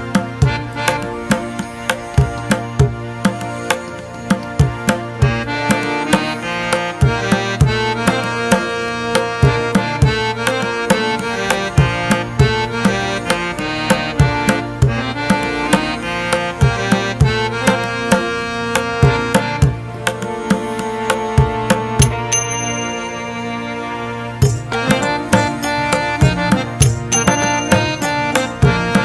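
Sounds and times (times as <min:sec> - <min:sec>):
quick percussion beat: 0:00.0 - 0:23.4, 0:24.4 - 0:29.0
melodic instrument lines: 0:05.5 - 0:29.0.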